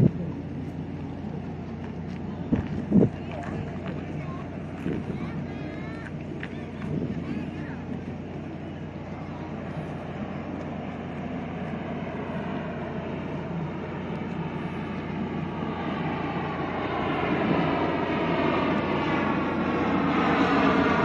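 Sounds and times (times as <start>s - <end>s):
turboprop aircraft engines droning: 0.0s - 21.0s.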